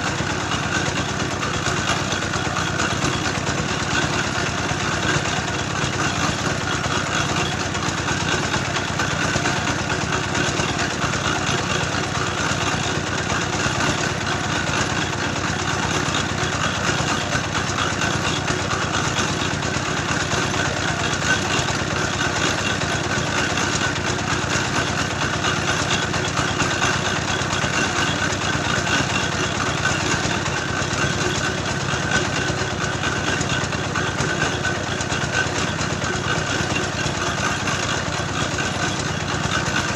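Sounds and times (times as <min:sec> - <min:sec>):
engine-driven grinding mill running: 0:00.0 - 0:39.9.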